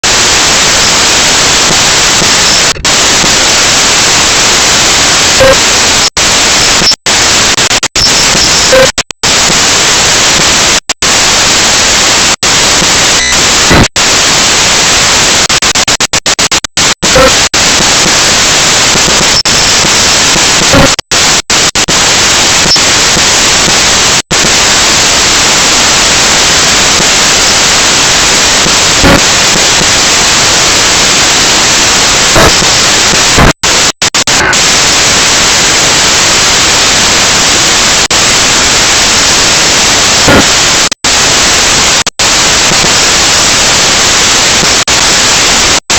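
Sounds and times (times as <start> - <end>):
loud static hiss: 0.0 - 45.9.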